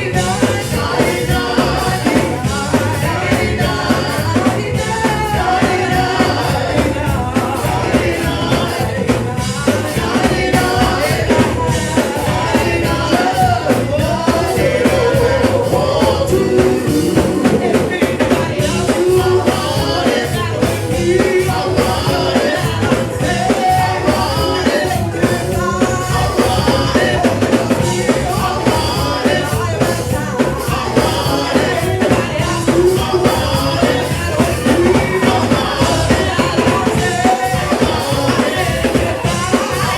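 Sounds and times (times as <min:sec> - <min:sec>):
band with drum kit: 0:00.0 - 0:39.9
voices singing: 0:00.0 - 0:39.9.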